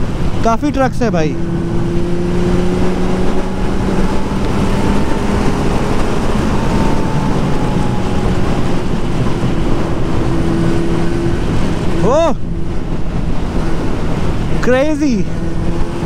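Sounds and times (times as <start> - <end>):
motorcycle engine running: 1.2 - 16.0
wind noise on microphone: 1.4 - 16.0.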